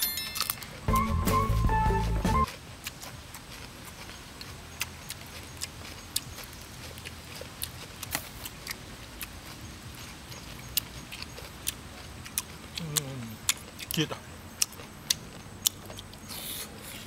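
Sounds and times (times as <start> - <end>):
chewing: 2.0 - 17.0.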